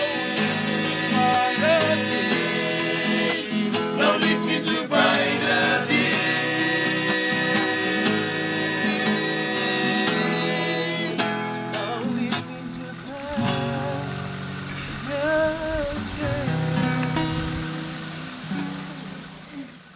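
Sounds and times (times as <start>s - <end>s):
person singing: 0.0s - 17.5s
acoustic guitar: 0.0s - 19.9s.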